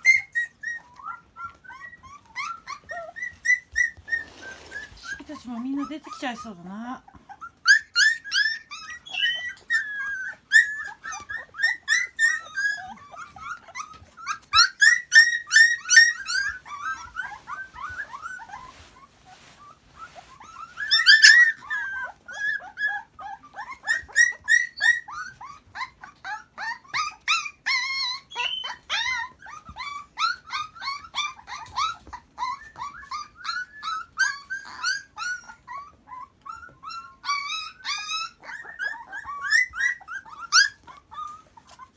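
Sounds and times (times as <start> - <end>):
puppies whining and yelping: 0.0 - 41.9.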